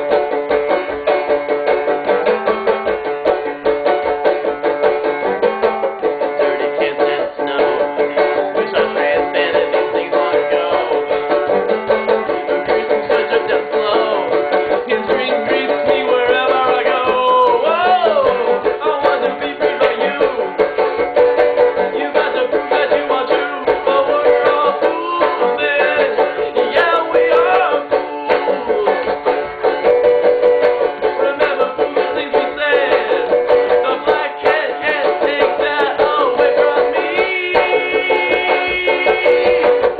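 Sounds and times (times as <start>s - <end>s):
banjo picking: 0.0s - 39.9s.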